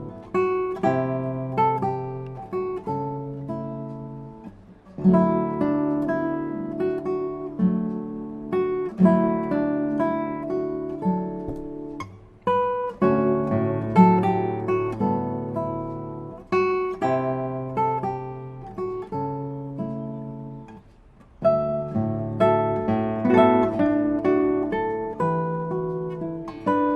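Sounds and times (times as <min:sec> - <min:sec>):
acoustic guitar: 0:00.0 - 0:26.9.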